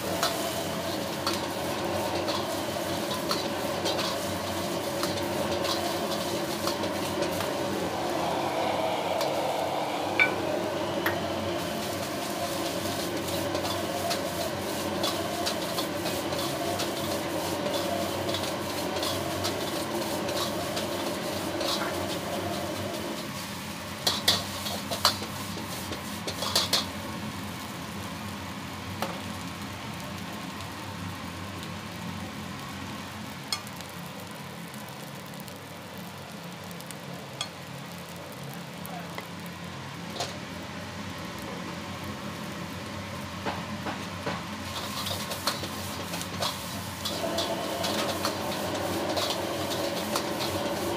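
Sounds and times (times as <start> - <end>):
egg and rice sizzling in a wok: 0.0 - 50.9.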